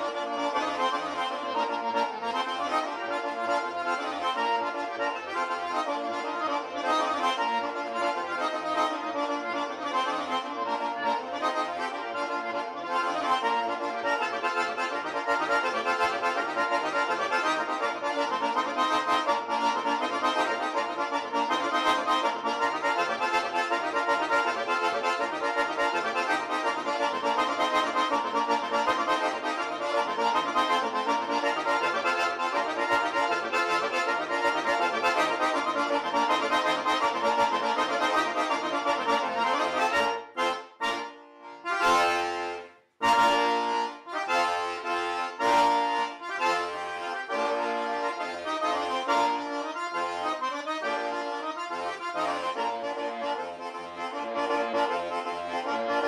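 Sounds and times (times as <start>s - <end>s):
accordion playing a tune: 0.0s - 56.0s.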